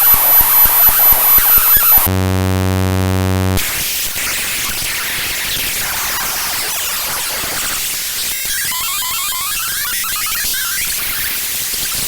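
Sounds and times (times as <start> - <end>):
harsh static-like noise: 0.0 - 12.0.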